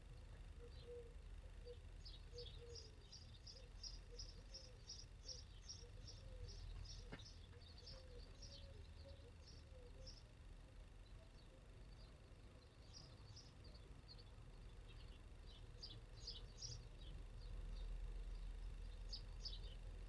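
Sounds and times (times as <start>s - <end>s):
bird chirping: 0.0s - 20.0s
low steady rumble: 0.0s - 20.0s.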